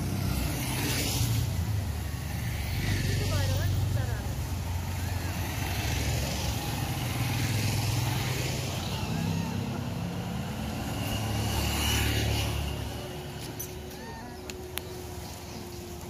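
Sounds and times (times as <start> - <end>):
vehicle engine passing: 0.0 - 13.9.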